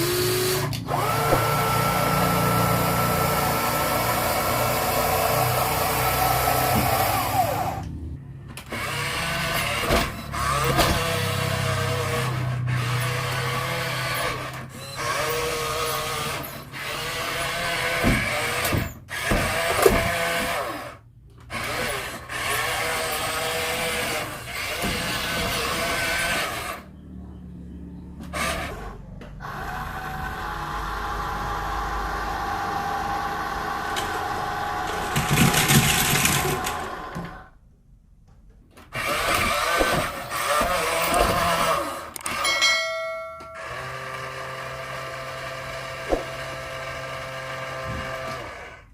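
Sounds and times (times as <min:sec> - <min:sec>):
toy electric motors whining: 0:00.0 - 0:08.0, 0:08.6 - 0:27.0, 0:28.1 - 0:37.6, 0:38.8 - 0:42.6, 0:43.5 - 0:48.9.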